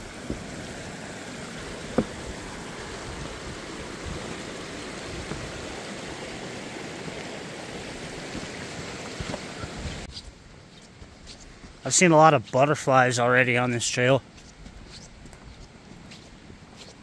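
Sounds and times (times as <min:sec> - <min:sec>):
creek water rushing: 0:00.0 - 0:14.1.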